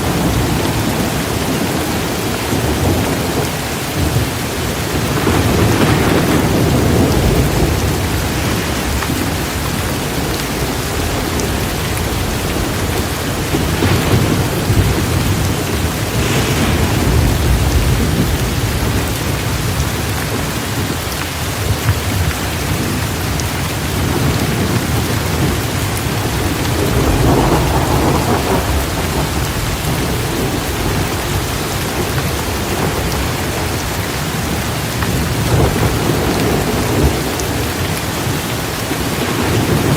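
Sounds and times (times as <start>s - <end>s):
low rolling thunder: 0.0s - 39.9s
torrential rain: 0.0s - 39.9s.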